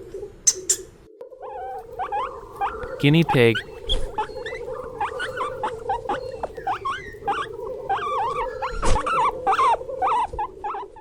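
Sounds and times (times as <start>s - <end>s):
guinea pig squeaking: 0.5s - 11.0s.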